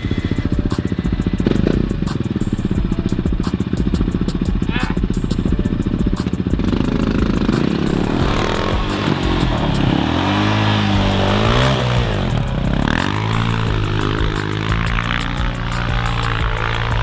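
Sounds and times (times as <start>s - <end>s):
small motorbike engine revving: 0.0s - 17.0s.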